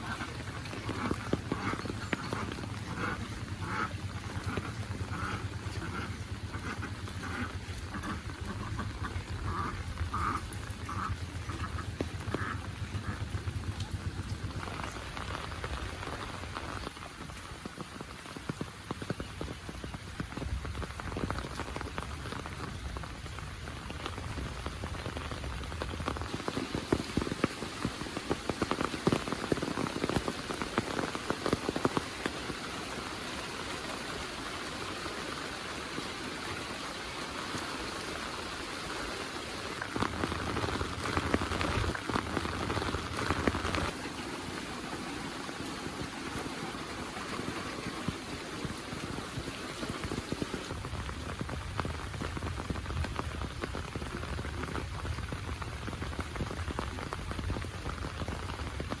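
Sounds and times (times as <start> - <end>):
close raindrop impacts ticking: 0.0 - 32.9, 36.0 - 59.0
heavy rain pouring: 0.0 - 59.0.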